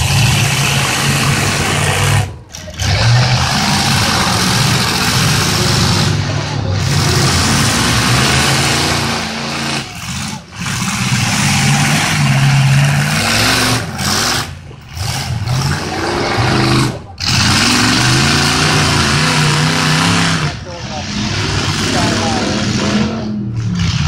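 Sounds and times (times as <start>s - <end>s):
car engines revving hard: 0.0s - 24.0s
loud steady noise: 0.0s - 24.0s.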